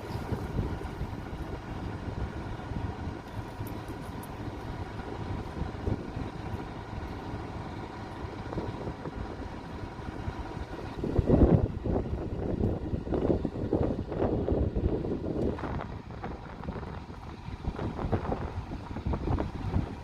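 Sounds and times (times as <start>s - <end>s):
engine idling: 0.0s - 20.0s
wind buffeting microphone: 0.0s - 20.0s.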